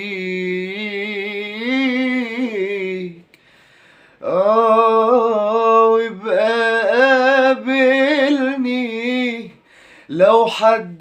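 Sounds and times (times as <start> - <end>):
man singing unaccompanied: 0.0 - 3.4, 4.2 - 11.0.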